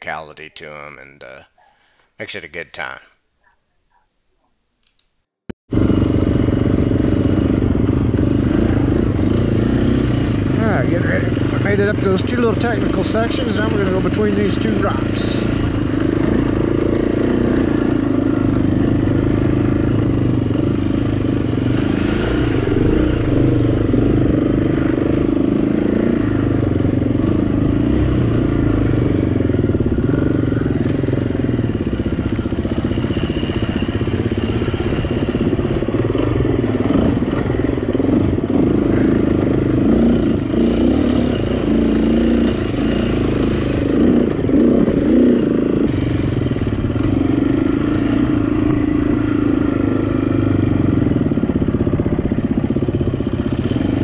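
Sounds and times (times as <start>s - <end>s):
dirt bike engine: 5.7s - 54.0s.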